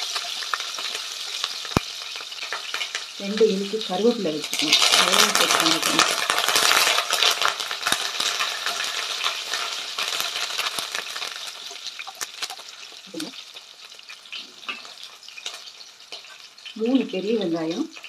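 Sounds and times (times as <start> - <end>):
chillies sizzling in hot oil: 0.0 - 18.0.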